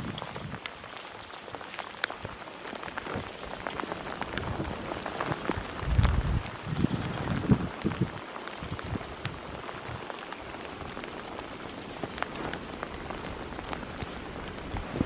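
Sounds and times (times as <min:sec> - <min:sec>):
wet snow pattering: 0:00.0 - 0:15.0.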